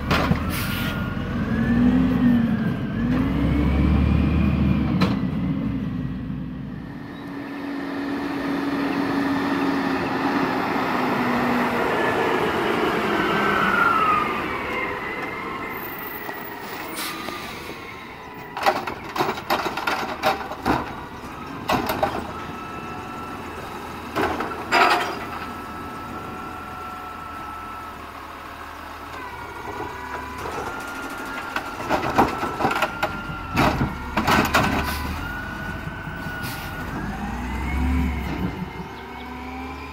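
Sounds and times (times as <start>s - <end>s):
garbage truck engine: 0.0s - 39.9s.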